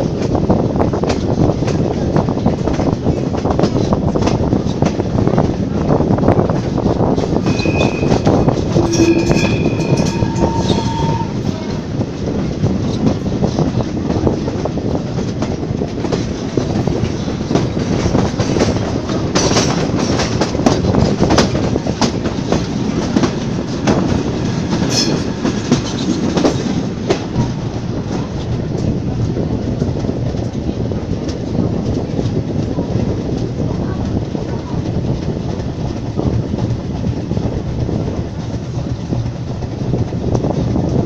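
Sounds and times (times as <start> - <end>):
clickety-clack over rail joints: 0.0 - 41.0
train wheels rumbling on rail: 0.0 - 41.0.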